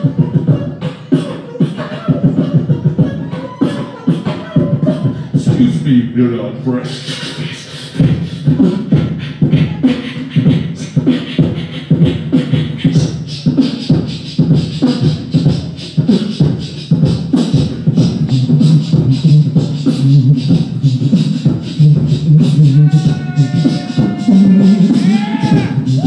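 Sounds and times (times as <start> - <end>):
beatboxing vocal drum hits: 0.0 - 6.0, 6.7 - 26.0.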